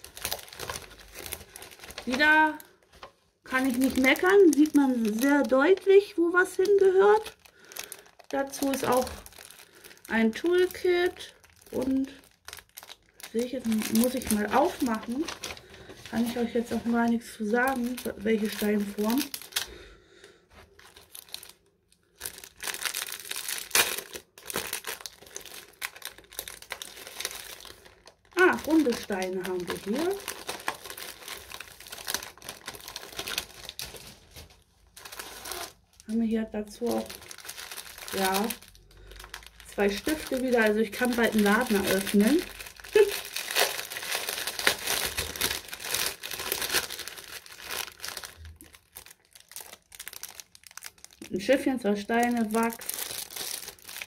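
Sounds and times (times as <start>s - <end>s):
plastic packet crinkling: 0.0s - 54.0s.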